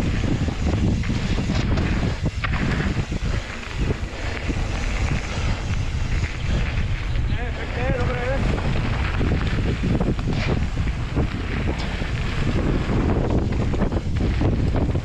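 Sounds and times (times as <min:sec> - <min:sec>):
bike knocks and rattles: 0:00.0 - 0:07.1, 0:08.0 - 0:15.0
tyres rumbling over dirt: 0:00.0 - 0:15.0
wind buffeting microphone: 0:00.0 - 0:15.0.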